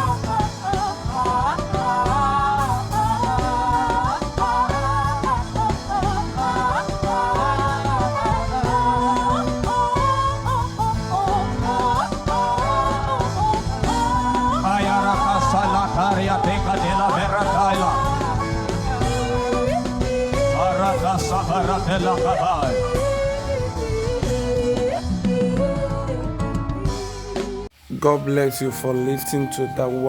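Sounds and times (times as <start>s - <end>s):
instrumental backing with low notes: 0.0s - 30.0s
wordless sung melody: 0.0s - 30.0s.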